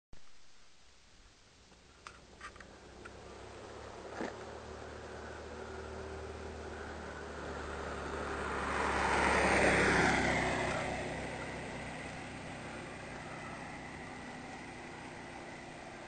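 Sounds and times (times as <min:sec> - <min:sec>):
car passing by: 0:02.6 - 0:16.0.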